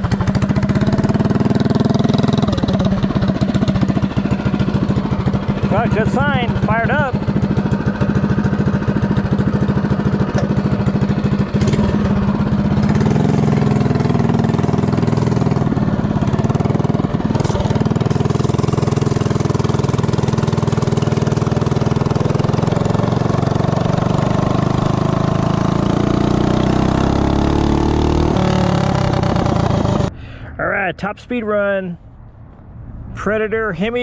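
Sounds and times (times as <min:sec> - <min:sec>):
minibike engine revving: 0:00.0 - 0:30.1.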